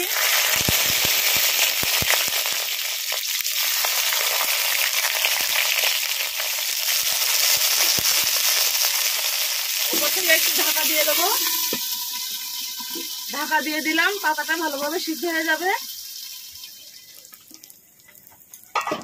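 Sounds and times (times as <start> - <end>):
food sizzling in hot oil: 0.0 - 18.9.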